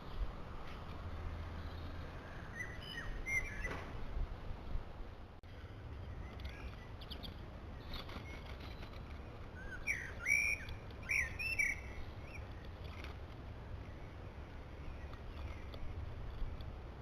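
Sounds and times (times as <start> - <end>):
small birds chirping: 0.0 - 3.9, 5.4 - 16.8.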